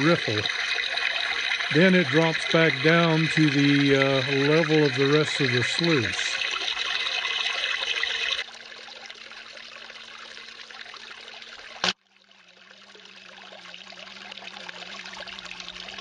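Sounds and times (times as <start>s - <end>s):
water trickling through sluice: 0.0s - 16.0s.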